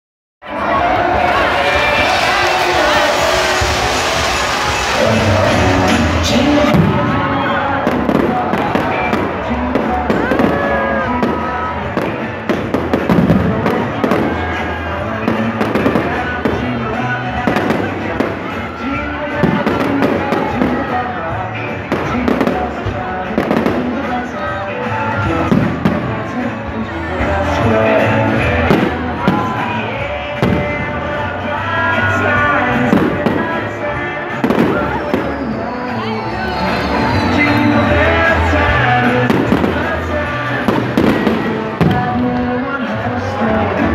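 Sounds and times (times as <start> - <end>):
show music playing: 0.4 - 43.9
fireworks bangs and crackles: 0.9 - 43.9.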